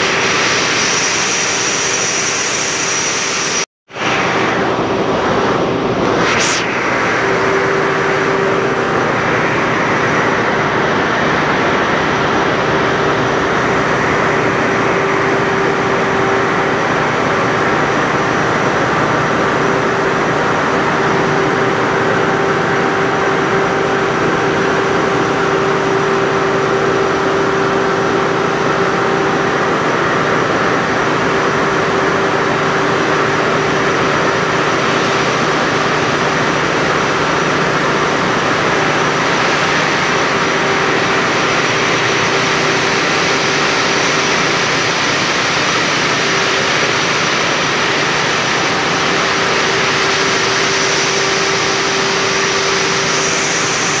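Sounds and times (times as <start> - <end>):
engine-room machinery roar: 0.0 - 54.0.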